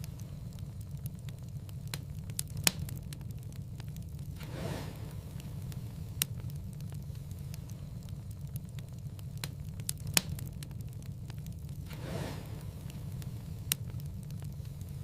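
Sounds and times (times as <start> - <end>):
rush of flame: 0.0 - 15.0
wood fire crackling: 0.0 - 15.0.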